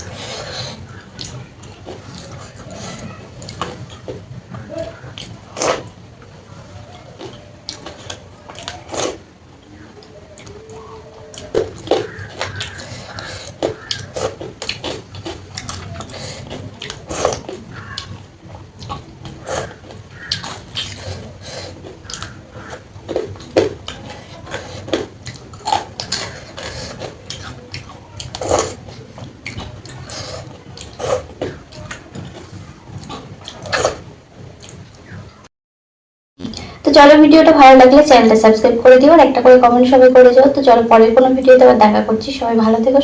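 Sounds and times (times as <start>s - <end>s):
person chewing food: 0.0s - 35.3s.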